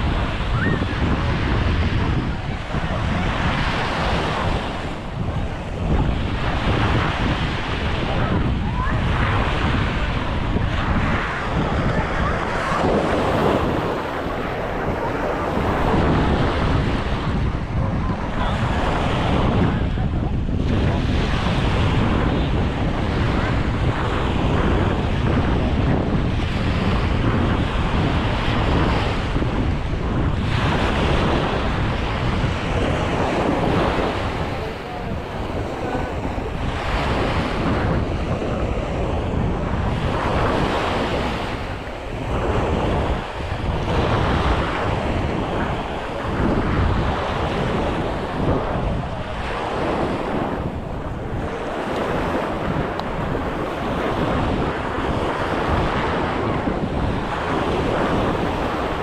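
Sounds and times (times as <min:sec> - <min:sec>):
sea waves washing onto beach: 0:00.0 - 0:59.0
wind buffeting microphone: 0:00.0 - 0:59.0.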